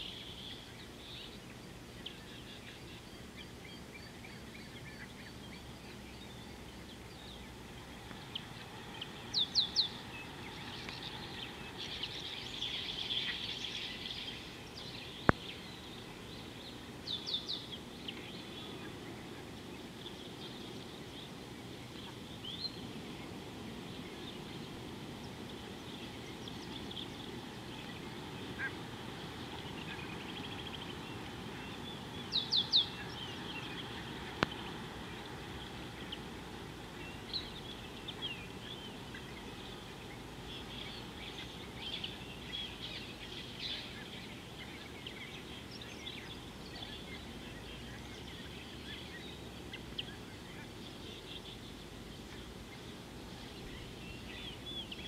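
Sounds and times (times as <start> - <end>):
outdoor background hiss: 0.0 - 55.0
wild birds chirping: 0.0 - 55.0.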